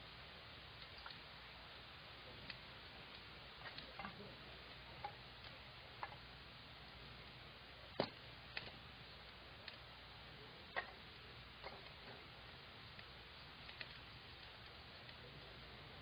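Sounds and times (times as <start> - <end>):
faint steady hiss: 0.0 - 16.0
campfire crackling and popping: 0.7 - 16.0.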